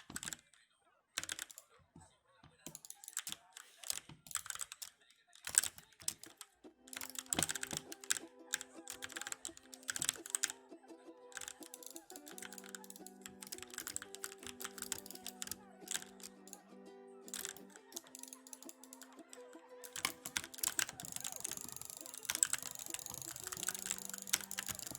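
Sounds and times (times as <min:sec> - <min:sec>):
mechanical keyboard typing: 0:00.0 - 0:00.4, 0:01.2 - 0:01.7, 0:02.6 - 0:10.7, 0:11.3 - 0:16.7, 0:17.3 - 0:24.9.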